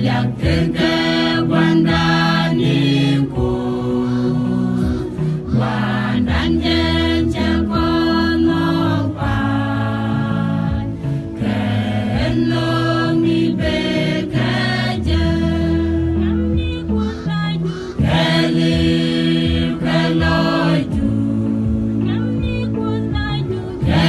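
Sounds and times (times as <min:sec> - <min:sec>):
choir singing a gospel song: 0:00.0 - 0:16.7, 0:18.0 - 0:22.8, 0:23.6 - 0:24.0.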